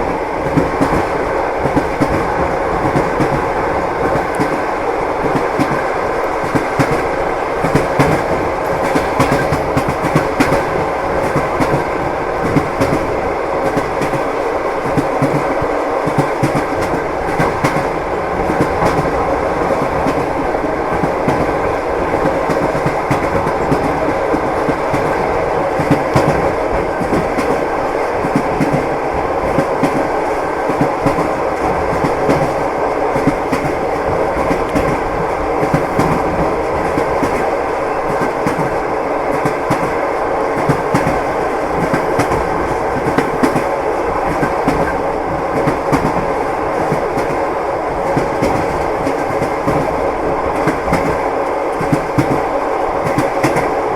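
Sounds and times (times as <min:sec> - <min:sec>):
continuous train rumble: 0:00.0 - 0:53.9
train wheels clacking over rail joints: 0:00.4 - 0:47.4, 0:48.0 - 0:53.8.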